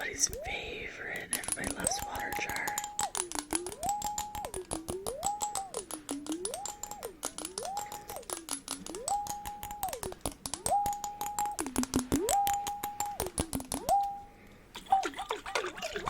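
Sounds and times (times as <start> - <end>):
sliding clear tone: 0.0 - 15.0.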